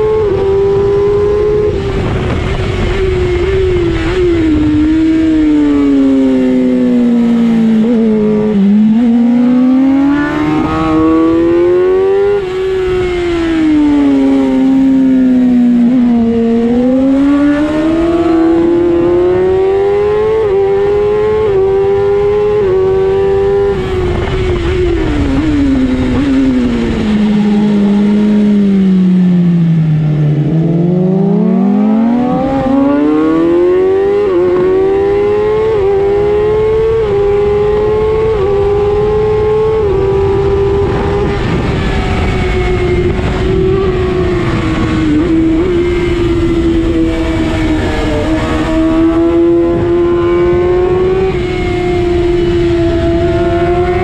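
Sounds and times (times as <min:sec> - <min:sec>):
race motorcycle engine revving: 0:00.0 - 0:54.0
wind rush: 0:00.0 - 0:54.0.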